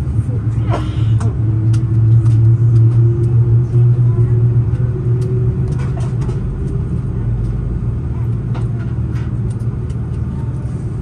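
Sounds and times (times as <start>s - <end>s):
jet engines idling rumble: 0.0s - 11.0s.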